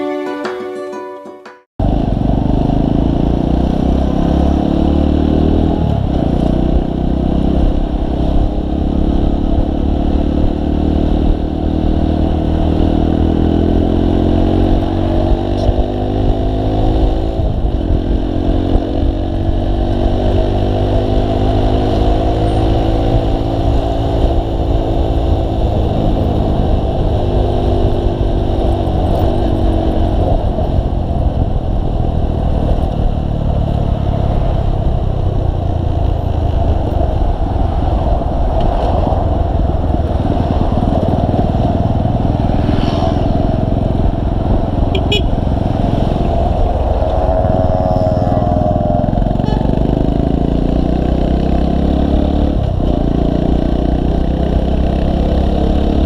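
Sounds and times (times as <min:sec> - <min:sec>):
motorcycle engine accelerating: 0:01.8 - 0:56.0.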